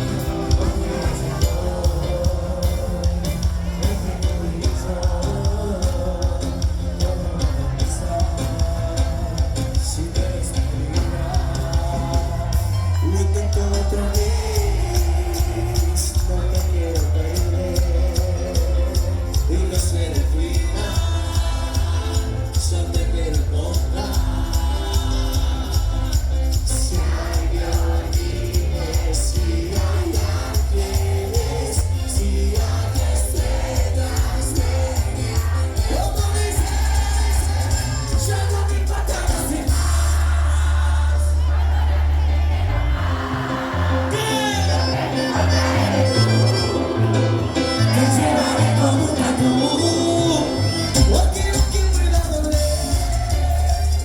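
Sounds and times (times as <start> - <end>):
live band music with singing: 0.0 - 54.0.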